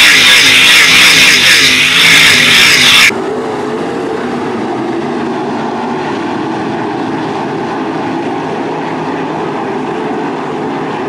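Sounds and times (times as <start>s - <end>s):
drone of racing car engines: 0.0s - 11.0s.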